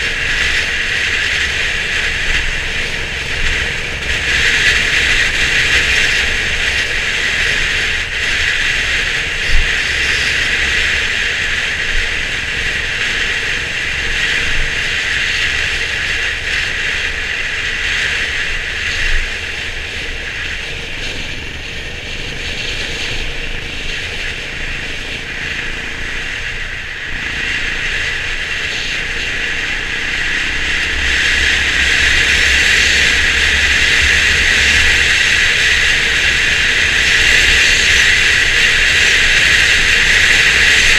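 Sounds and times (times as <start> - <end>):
motorcycle engine rumble: 0.0 - 40.9
rattling rushing ride noise: 0.0 - 40.9.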